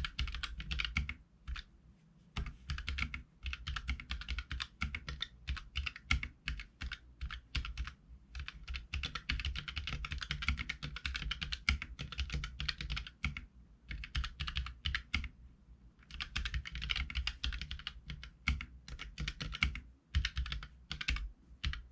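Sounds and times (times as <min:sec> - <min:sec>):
mechanical keyboard typing: 0:00.0 - 0:01.7, 0:02.4 - 0:15.3, 0:16.0 - 0:21.9.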